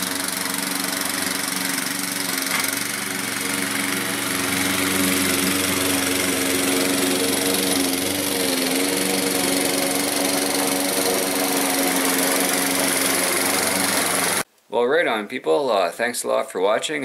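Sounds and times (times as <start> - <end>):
lawn mower engine running: 0.0 - 14.5.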